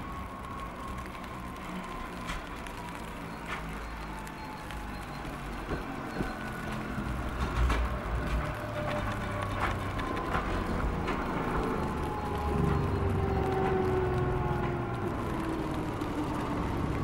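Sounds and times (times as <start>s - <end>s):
low rumble of railcar: 0.0s - 17.0s
wheels clicking on track: 0.0s - 17.0s.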